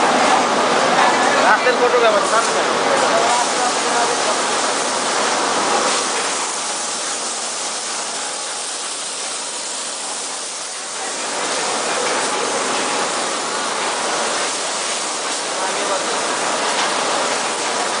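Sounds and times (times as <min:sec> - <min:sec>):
mill machinery rushing noise: 0:00.0 - 0:18.0.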